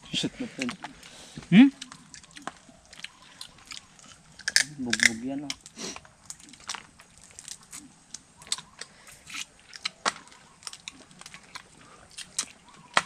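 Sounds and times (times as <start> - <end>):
crunching between teeth: 0.6 - 13.0
crab shells cracking: 1.8 - 13.0.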